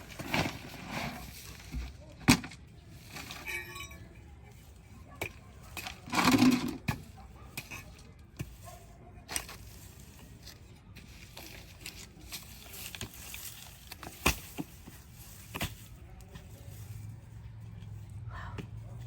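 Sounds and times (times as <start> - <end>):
scraping and rustling of earth: 0.0 - 19.0.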